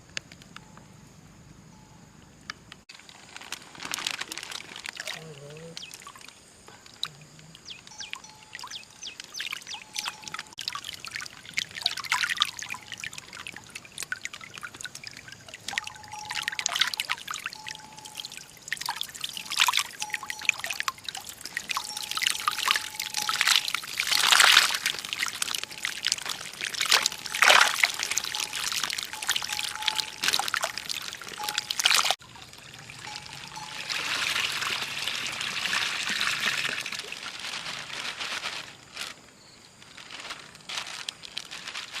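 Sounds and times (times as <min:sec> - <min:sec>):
water splashing and pouring: 0:02.9 - 0:38.5
water trickle: 0:03.0 - 0:37.8.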